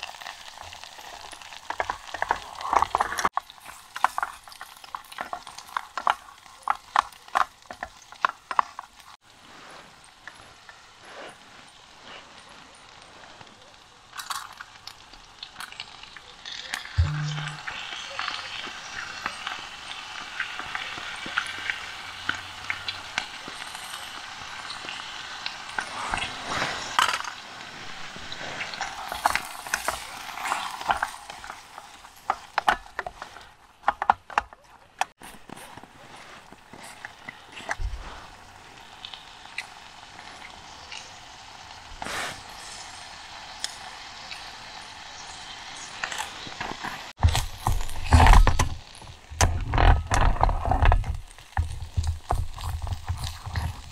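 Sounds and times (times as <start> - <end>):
gas burner hissing: 0.0 - 34.1, 35.1 - 53.9
food sizzling: 0.0 - 53.9.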